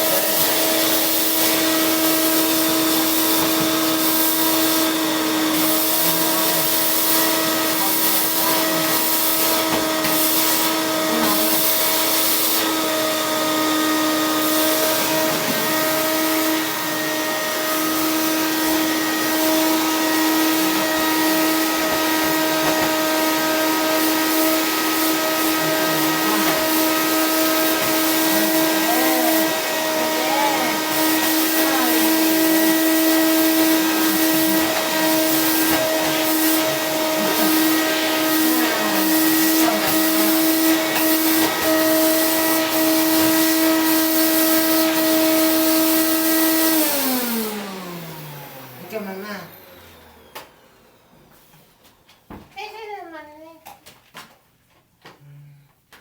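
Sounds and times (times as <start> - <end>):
vacuum cleaner running: 0.0 - 52.2.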